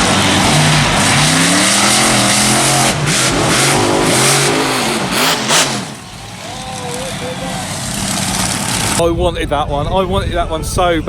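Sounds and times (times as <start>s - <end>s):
monster truck engine revving: 0.0s - 9.1s.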